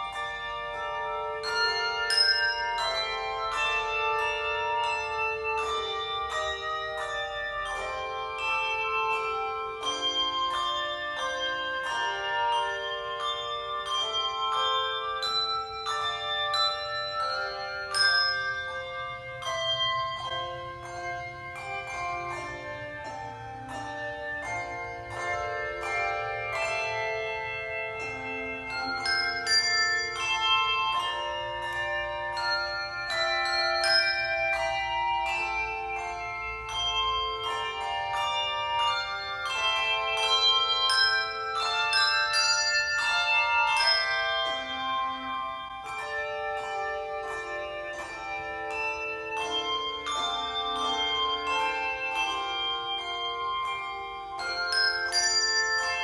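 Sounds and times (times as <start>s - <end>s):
handbell choir playing: 0.0s - 56.0s.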